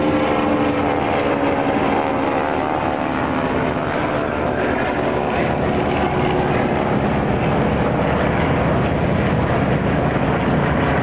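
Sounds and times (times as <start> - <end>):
airplane engines droning: 0.0 - 11.0.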